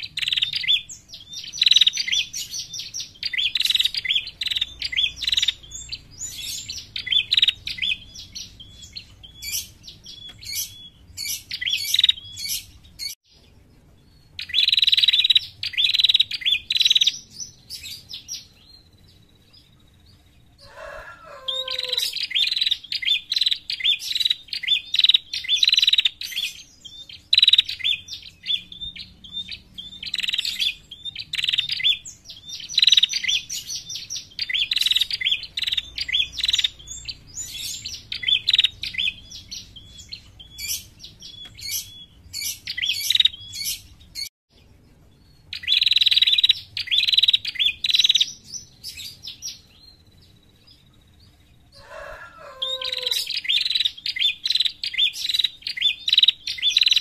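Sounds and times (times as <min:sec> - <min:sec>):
bird chirping rapidly: 0:00.0 - 0:57.0.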